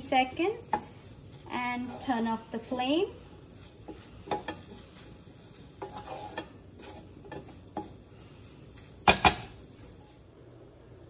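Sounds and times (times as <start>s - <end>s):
spatula scraping frying pan: 0.0s - 10.3s.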